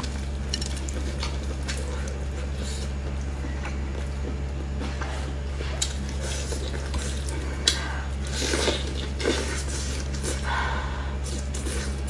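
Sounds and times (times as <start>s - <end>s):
steady low hum: 0.0s - 12.0s
wet chewing: 0.0s - 12.0s.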